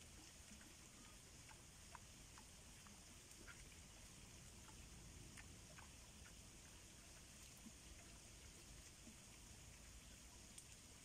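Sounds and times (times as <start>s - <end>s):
faint steady hiss: 0.0s - 11.0s
soft ticks: 0.0s - 11.0s.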